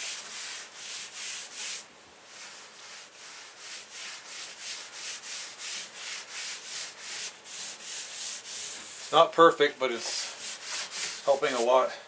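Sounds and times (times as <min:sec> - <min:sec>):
paper towel rubbing wood: 0:00.0 - 0:11.9.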